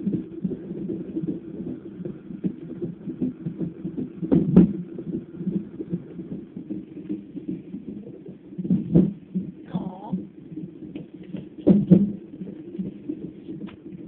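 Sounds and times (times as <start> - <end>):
rapid heartbeat whoosh: 0.0 - 14.0.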